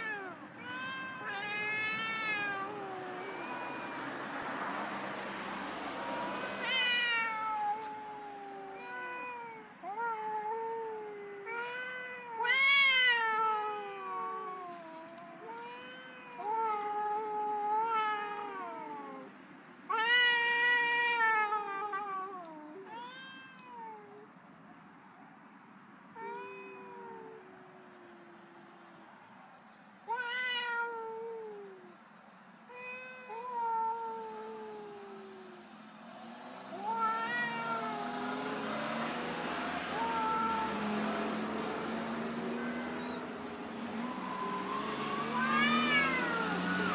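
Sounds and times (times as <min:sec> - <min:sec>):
cats yowling: 0:00.0 - 0:04.4, 0:06.0 - 0:19.3, 0:19.9 - 0:24.3, 0:26.2 - 0:28.7, 0:30.1 - 0:31.9, 0:32.7 - 0:35.7, 0:36.7 - 0:46.9.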